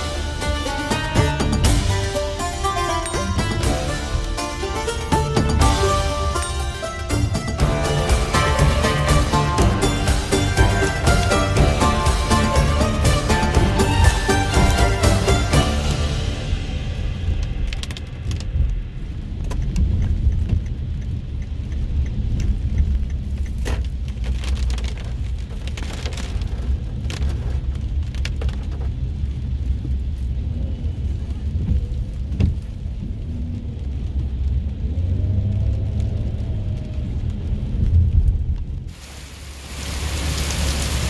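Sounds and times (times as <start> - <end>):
car engine rumble inside cabin: 0.0 - 38.9
rain hitting a car: 0.0 - 41.0.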